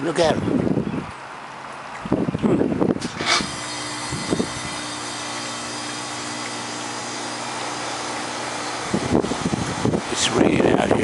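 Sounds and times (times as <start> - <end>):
mechanical hum: 2.1 - 11.0.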